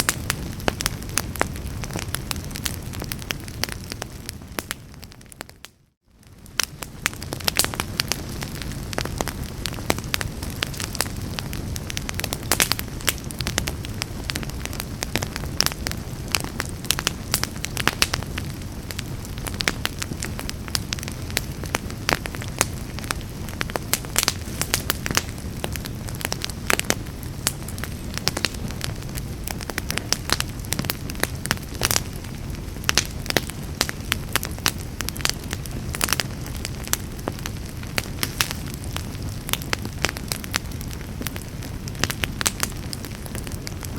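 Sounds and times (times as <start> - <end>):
burning wood crackling and popping: 0.0 - 43.9
fire rumbling: 0.0 - 43.9.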